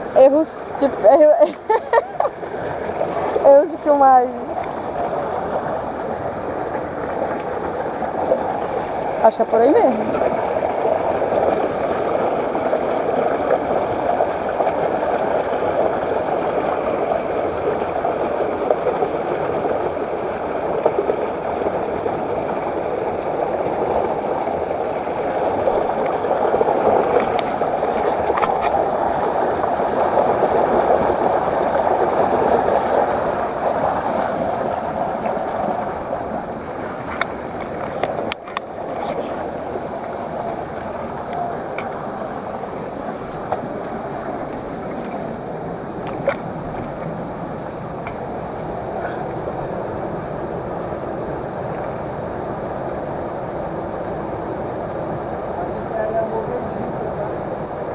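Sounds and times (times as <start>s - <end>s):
waterfall rushing over rocks: 0.0s - 57.9s.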